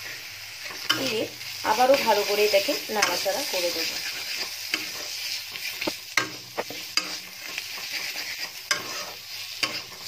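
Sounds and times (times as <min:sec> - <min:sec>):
spatula stirring and scraping masala: 0:00.0 - 0:10.0
steady frying sizzle: 0:00.0 - 0:10.0.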